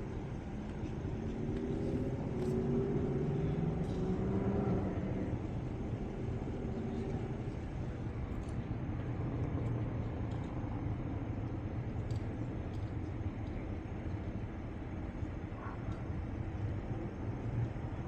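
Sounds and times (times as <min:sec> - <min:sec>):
street noise: 0:00.0 - 0:18.0.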